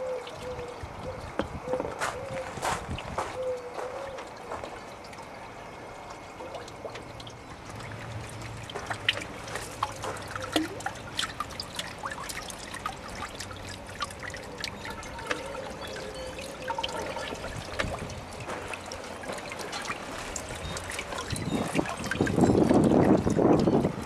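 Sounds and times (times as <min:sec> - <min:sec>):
water drips and splashes: 0:00.0 - 0:24.0
water trickling: 0:02.5 - 0:24.0.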